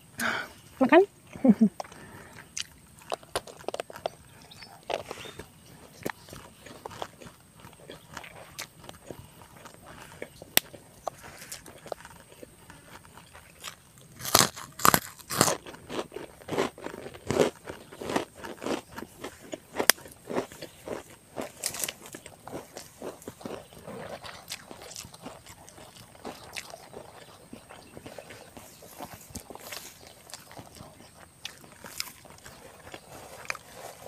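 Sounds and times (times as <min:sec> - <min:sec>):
person chewing crisp cracker: 0:01.2 - 0:34.0.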